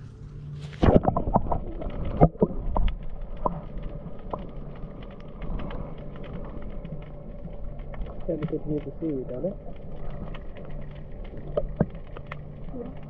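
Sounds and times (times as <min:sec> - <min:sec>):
low underwater rumble: 0:00.0 - 0:13.0
underwater crackle of seaweed on hull: 0:00.0 - 0:13.0.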